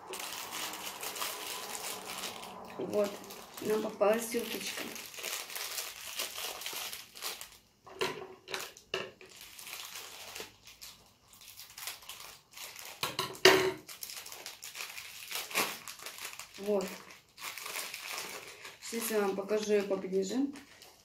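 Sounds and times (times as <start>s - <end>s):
plastic packet crinkling: 0.0s - 13.2s, 13.8s - 21.0s.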